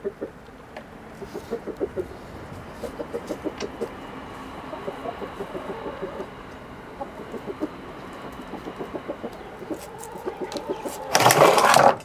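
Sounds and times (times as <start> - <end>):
chickens clucking softly: 0.0 - 11.9.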